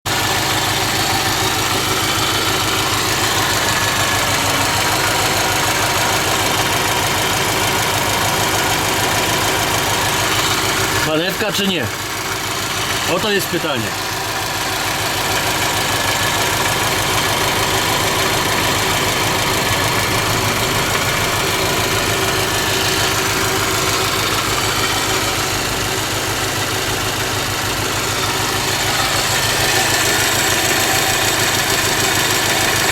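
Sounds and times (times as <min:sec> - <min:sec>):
engine idling with knock: 0:00.1 - 0:32.9.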